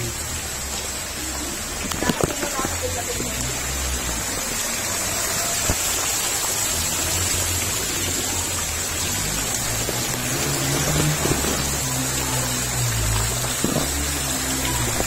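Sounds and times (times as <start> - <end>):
floodwater rushing: 0.0 - 15.0
heavy rain: 0.0 - 15.0.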